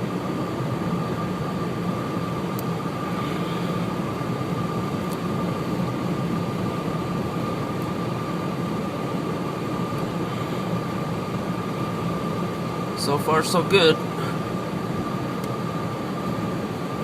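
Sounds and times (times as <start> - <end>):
car engine and road noise: 0.0 - 17.0
high whine: 0.0 - 17.0.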